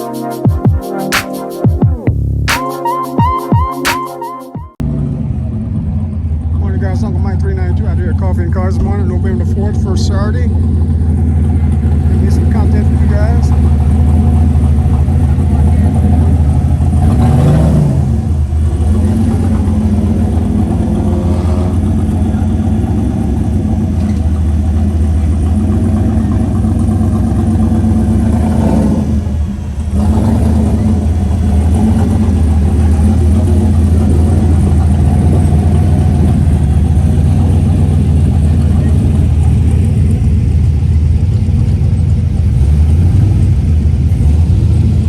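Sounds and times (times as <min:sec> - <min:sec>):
car engines droning: 0:04.8 - 0:45.0.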